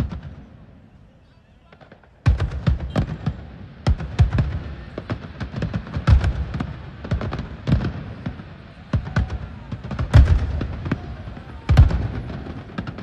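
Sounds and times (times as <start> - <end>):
fireworks bursts and bangs: 0.0 - 13.0
low firework booms: 1.7 - 13.0.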